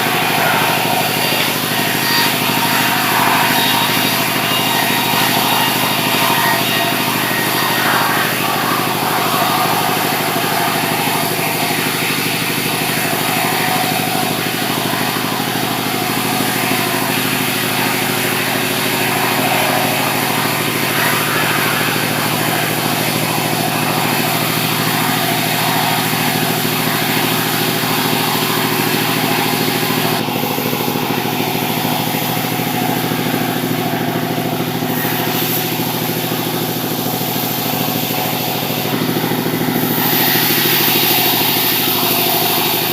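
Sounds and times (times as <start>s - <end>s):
sawmill machinery hum: 0.0s - 42.9s.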